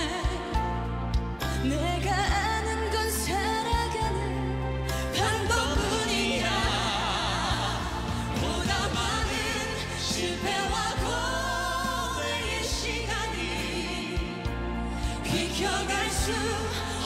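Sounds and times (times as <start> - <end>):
live backing music: 0.0 - 17.0
man and women singing a ballad: 0.0 - 17.0.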